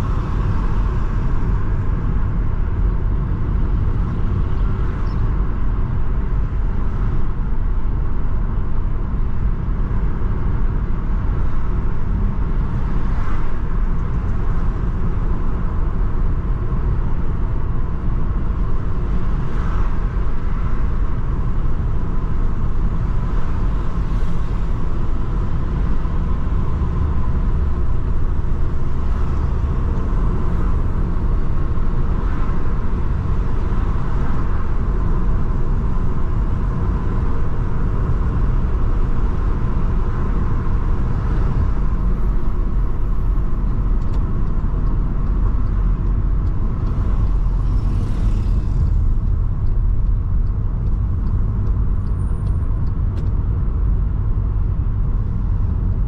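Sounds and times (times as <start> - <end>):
car engine and tyre rumble: 0.0 - 56.0
passing traffic: 0.0 - 56.0.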